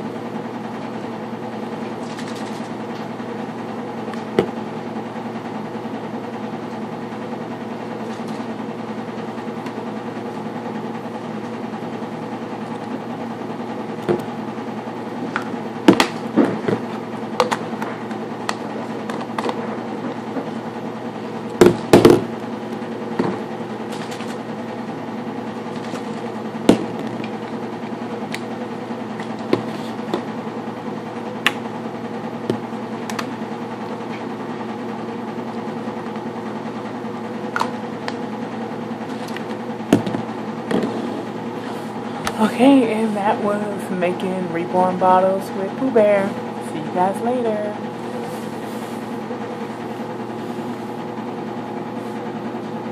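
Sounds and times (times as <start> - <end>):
low appliance hum: 0.0 - 52.9.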